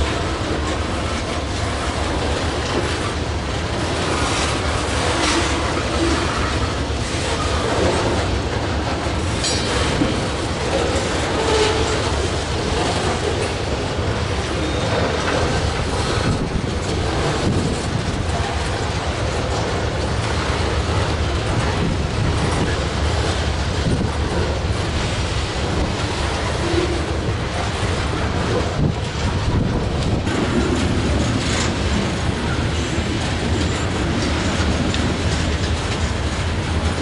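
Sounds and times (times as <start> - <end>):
freight train wheels clattering: 0.0 - 37.0.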